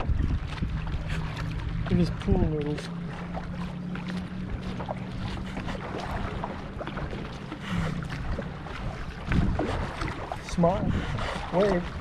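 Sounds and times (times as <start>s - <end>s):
paddle splashes: 0.0s - 12.0s
water lapping against kayak hull: 0.0s - 12.0s
wind: 0.0s - 12.0s.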